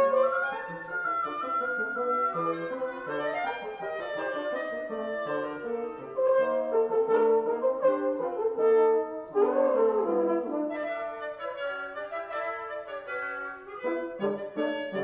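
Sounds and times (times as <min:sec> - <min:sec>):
woodwind quintet playing: 0:00.0 - 0:15.0.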